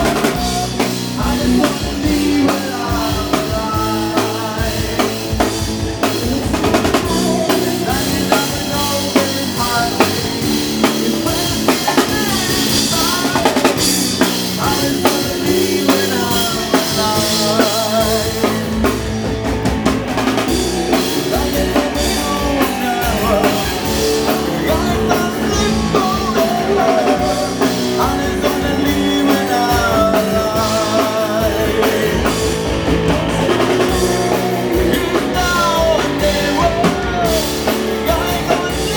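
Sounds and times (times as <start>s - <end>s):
person singing: 0.0s - 19.3s, 20.3s - 38.9s
drum kit beat: 0.0s - 38.9s
rock band playing: 0.0s - 38.9s.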